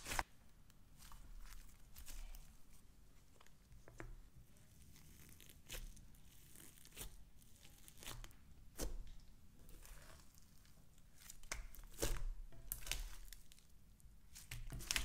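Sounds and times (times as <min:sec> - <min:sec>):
sticky slime crackling: 0:00.9 - 0:02.8, 0:03.4 - 0:15.0.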